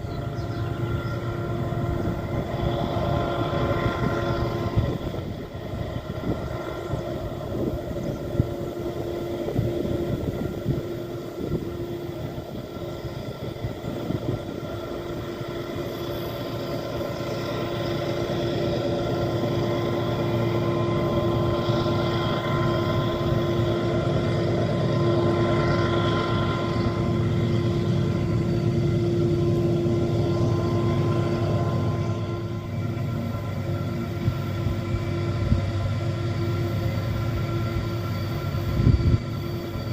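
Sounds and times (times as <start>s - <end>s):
high whine: 0.0s - 39.9s
locomotive engine drone: 0.0s - 39.9s.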